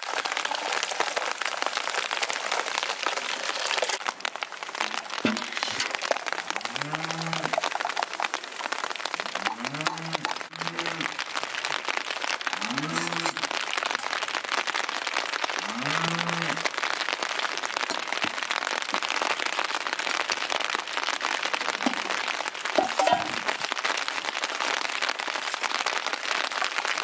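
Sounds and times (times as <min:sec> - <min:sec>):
light rain pattering: 0:00.0 - 0:27.0.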